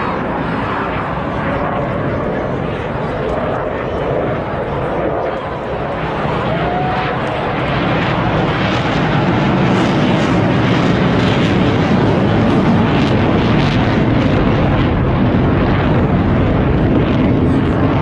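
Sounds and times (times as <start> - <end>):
jet aircraft engine rush: 0.0 - 18.0.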